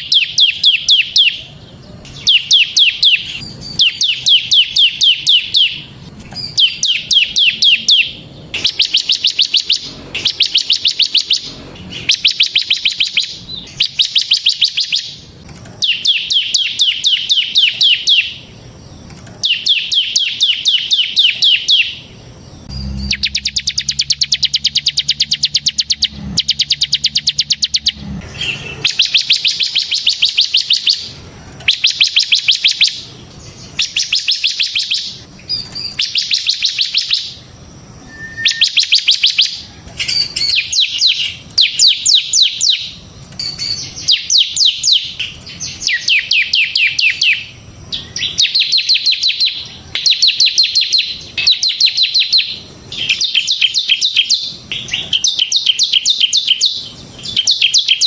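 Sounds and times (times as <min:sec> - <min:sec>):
bird singing rapid rattling song: 0:00.0 - 0:58.0.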